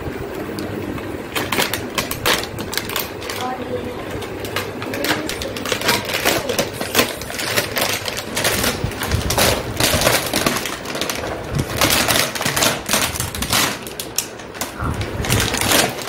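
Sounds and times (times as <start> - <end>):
plastic wrapping crinkling: 1.2 - 16.0.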